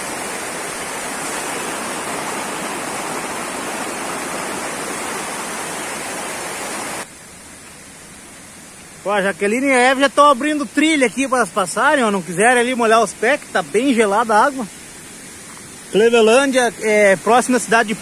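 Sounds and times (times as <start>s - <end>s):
waterfall and rapids rushing: 0.0s - 18.0s.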